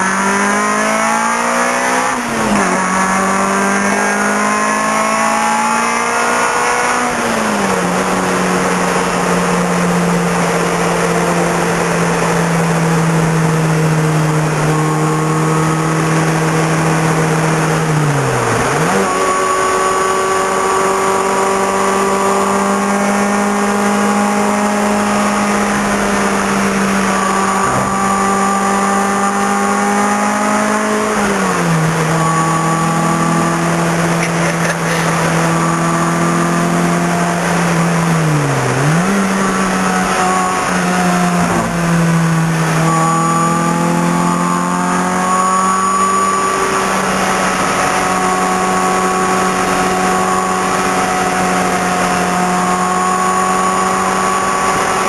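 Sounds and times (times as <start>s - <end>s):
car engine revving inside cabin: 0.0s - 55.0s.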